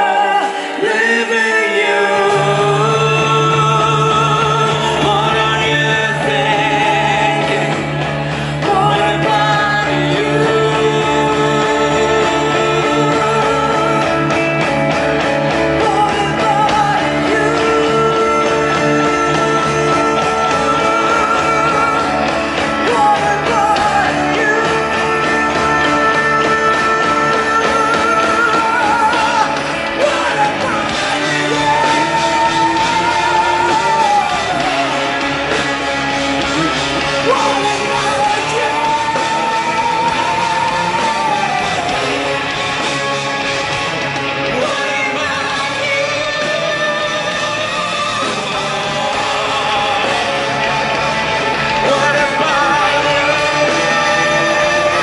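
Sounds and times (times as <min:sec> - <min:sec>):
live metal band playing: 0:00.0 - 0:55.0.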